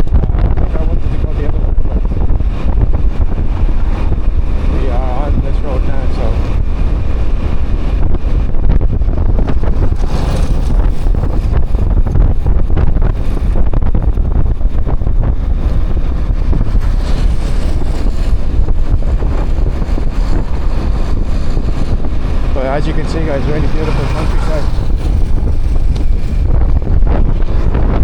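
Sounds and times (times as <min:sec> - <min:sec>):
motorbike running: 0:00.0 - 0:28.0
wind buffeting microphone: 0:00.0 - 0:28.0.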